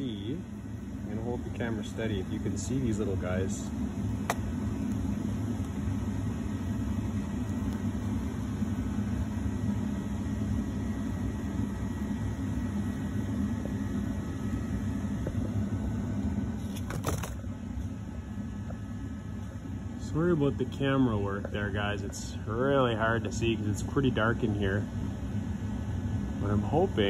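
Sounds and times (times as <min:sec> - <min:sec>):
heaters humming: 0:00.0 - 0:27.0.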